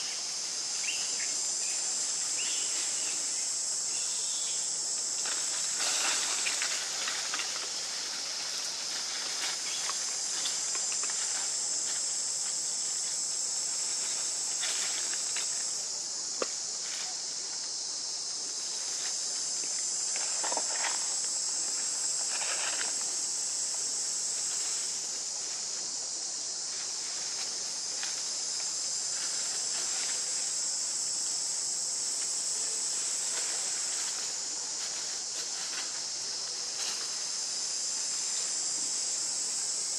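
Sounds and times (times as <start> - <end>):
insect chorus drone: 0.0 - 39.9
leaves and branches rustling: 0.0 - 39.9.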